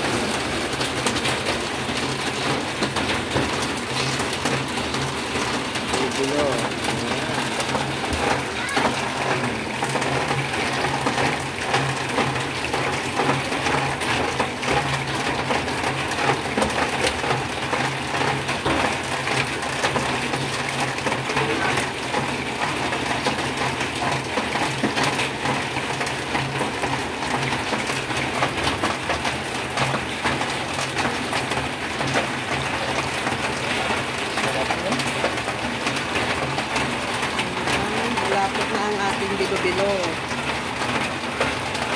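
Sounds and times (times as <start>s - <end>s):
oil sizzling and crackling: 0.0s - 41.9s.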